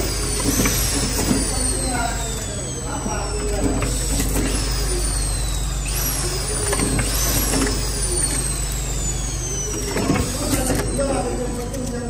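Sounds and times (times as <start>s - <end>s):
packing machine humming: 0.0s - 12.0s.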